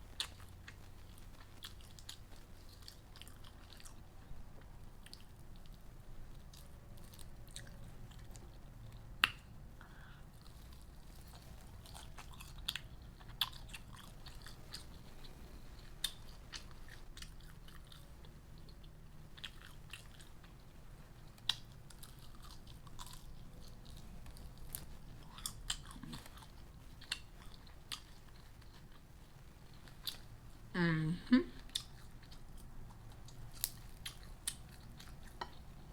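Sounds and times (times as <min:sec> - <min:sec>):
faint low hum: 0:00.0 - 0:35.9
person chewing and crunching: 0:00.1 - 0:09.5, 0:10.3 - 0:30.5, 0:31.6 - 0:35.9.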